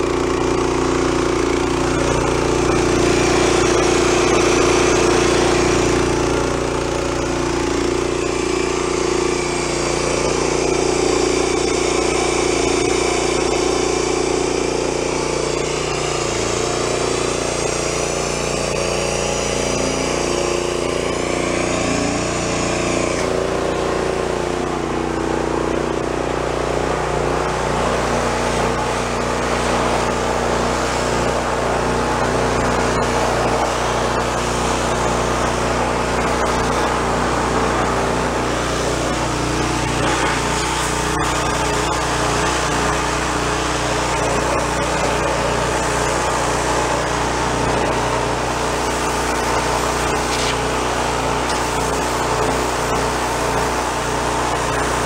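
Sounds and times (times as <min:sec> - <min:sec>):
pressure washer engine running: 0:00.0 - 0:55.0
high-pressure water spray hiss: 0:00.6 - 0:23.4, 0:27.6 - 0:55.0.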